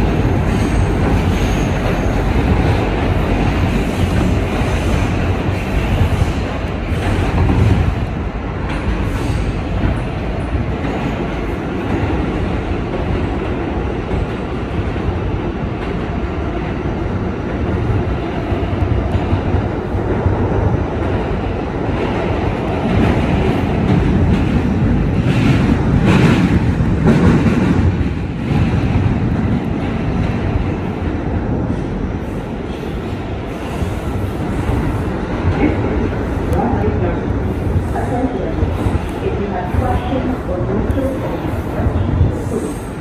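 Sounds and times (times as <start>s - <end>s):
subway wheels rumbling on rails: 0.0s - 43.0s.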